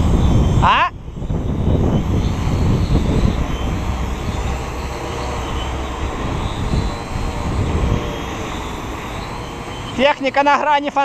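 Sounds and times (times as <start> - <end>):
quadcopter propellers whirring: 0.0 - 11.0
wind buffeting microphone: 0.0 - 11.0.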